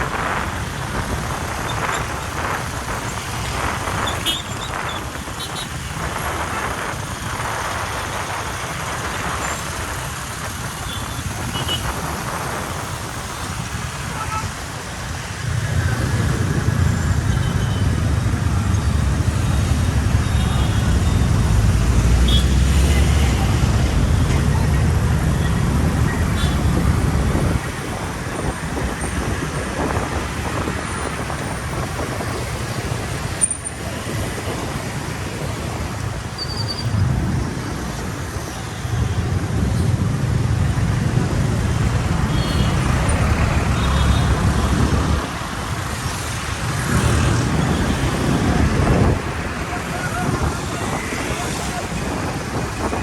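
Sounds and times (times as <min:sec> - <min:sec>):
road traffic rumbling: 0:00.0 - 0:53.0.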